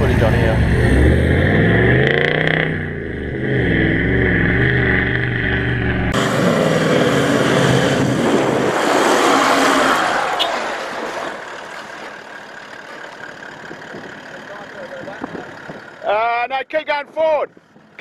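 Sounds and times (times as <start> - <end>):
diesel engine revving: 0.0 - 16.1.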